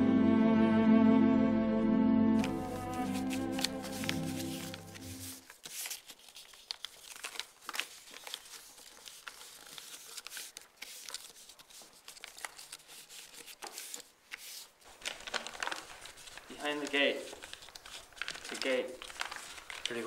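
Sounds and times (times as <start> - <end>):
paper crinkling and rustling: 2.4 - 20.0.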